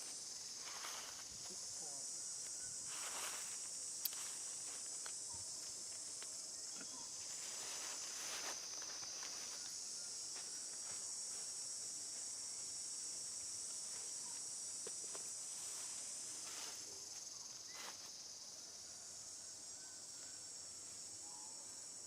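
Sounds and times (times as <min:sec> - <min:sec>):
insect chorus drone: 0:00.0 - 0:22.0
rustle: 0:00.0 - 0:22.0.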